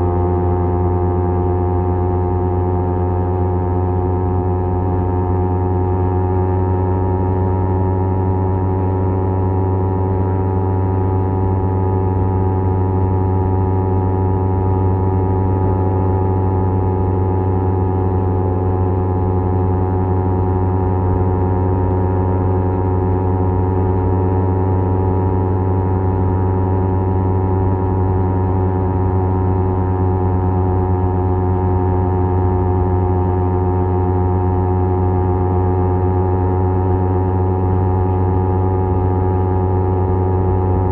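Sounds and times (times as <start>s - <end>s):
motorcycle engine exhaust drone: 0.0s - 40.9s.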